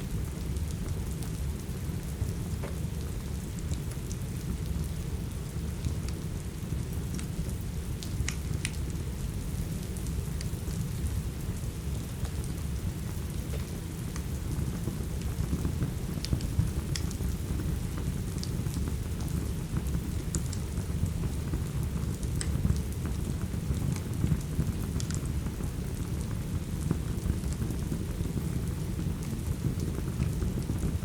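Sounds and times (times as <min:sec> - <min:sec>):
steady rain: 0:00.0 - 0:31.0
wood fire crackling: 0:00.1 - 0:31.0.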